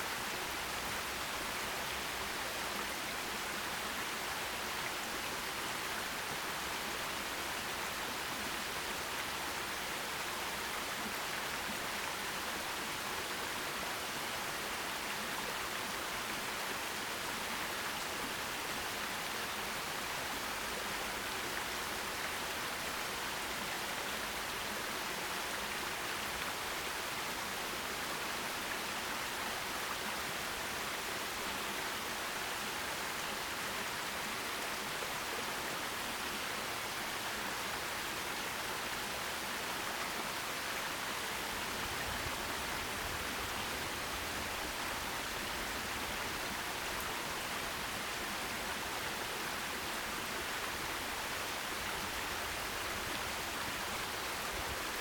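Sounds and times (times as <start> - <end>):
forest stream running: 0.0 - 55.0.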